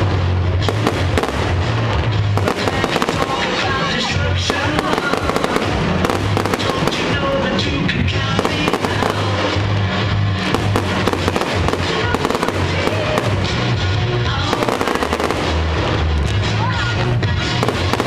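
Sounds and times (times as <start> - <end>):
fireworks popping and crackling: 0.0 - 18.0
music playing: 0.0 - 18.0.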